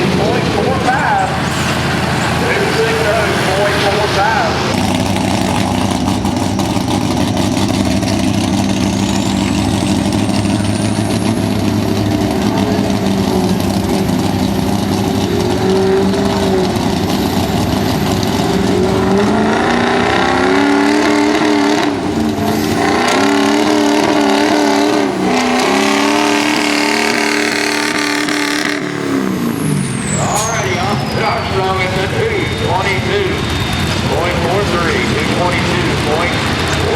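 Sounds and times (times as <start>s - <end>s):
truck engine running hard: 0.0s - 36.9s.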